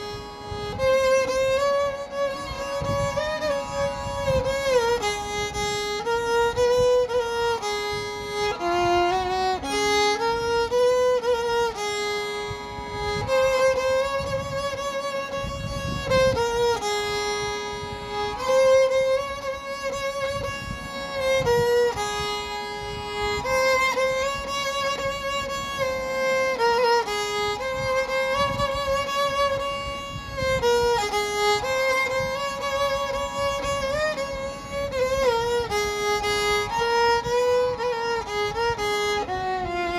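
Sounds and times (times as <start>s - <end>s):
slow violin melody: 0.0s - 39.9s
soft low accompaniment: 0.0s - 39.9s.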